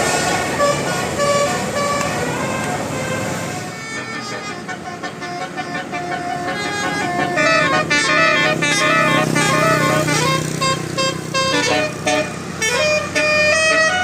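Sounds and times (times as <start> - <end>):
bus engine running: 0.0 - 14.0
multi-tone musical bus horn: 0.0 - 14.0.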